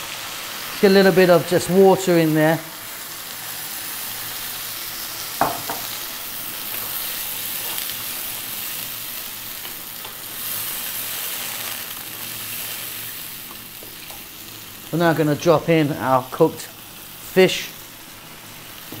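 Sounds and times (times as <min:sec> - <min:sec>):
sauce sizzling in frying pan: 0:00.0 - 0:19.0.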